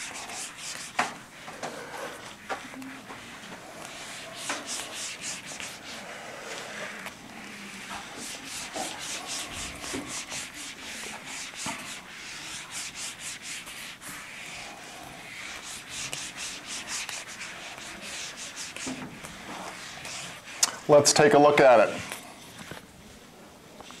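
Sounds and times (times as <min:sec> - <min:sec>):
eraser rubbing whiteboard: 0:00.0 - 0:22.8.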